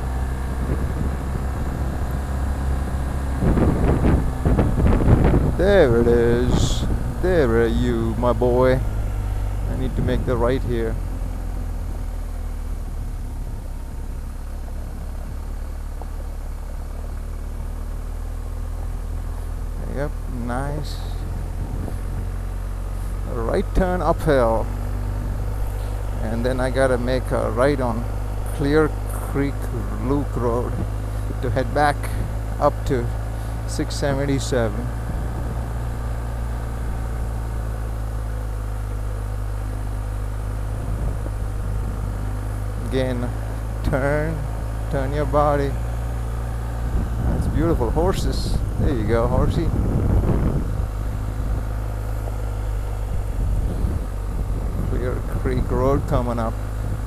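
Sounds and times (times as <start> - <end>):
motorcycle engine rumbling: 0.0 - 57.0
road and wind noise: 0.0 - 57.0.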